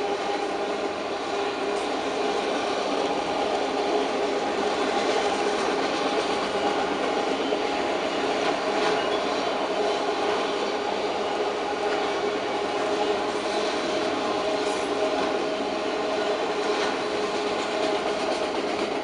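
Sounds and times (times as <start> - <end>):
freight train wheels rumbling on rails: 0.0 - 19.0.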